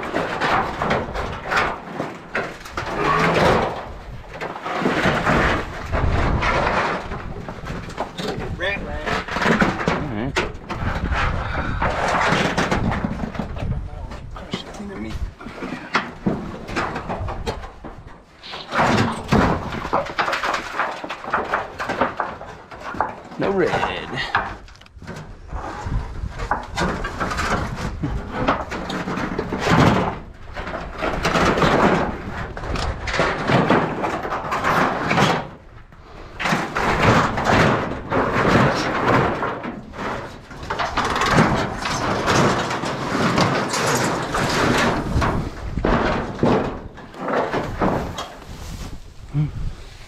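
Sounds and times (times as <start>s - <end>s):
boards and sheet tin clattering: 0.0s - 48.6s
debris rustling and scraping: 0.0s - 50.0s.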